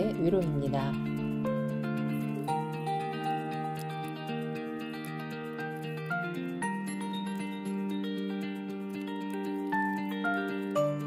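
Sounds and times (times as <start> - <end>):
melody of held notes: 0.0 - 11.0.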